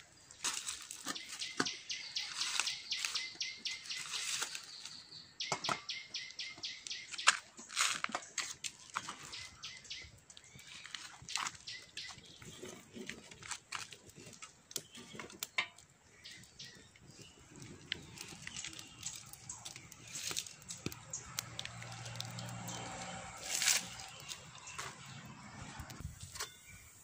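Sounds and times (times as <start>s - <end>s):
firewood crackling and popping: 0.0s - 26.4s.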